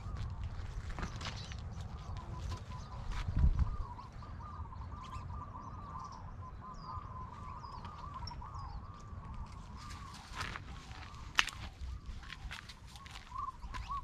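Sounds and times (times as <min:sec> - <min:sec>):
small birds chirping: 0:00.0 - 0:14.0
bird warbling: 0:01.4 - 0:14.0.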